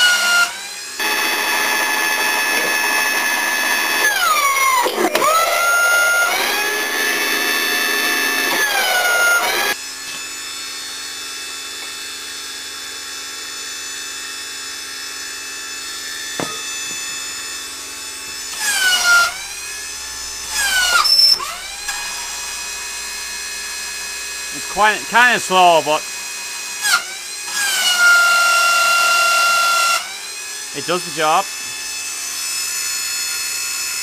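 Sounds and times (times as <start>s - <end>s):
hydraulic pump motor whining: 0.0s - 34.0s.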